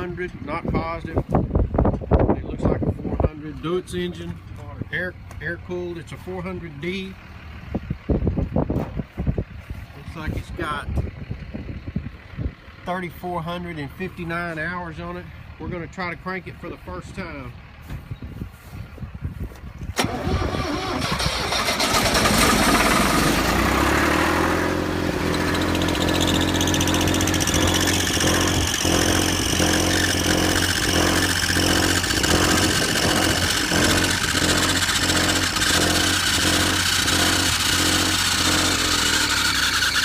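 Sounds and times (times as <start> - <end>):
diesel engine starting and running: 0.0 - 40.0.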